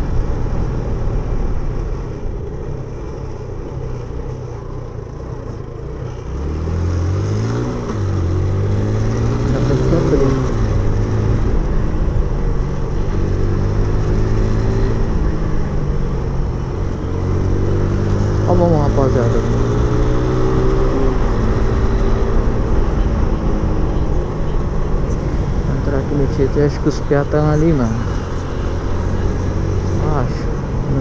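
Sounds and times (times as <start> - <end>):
motorcycle engine running: 0.0 - 31.0
road noise: 0.0 - 31.0
wind: 0.0 - 31.0.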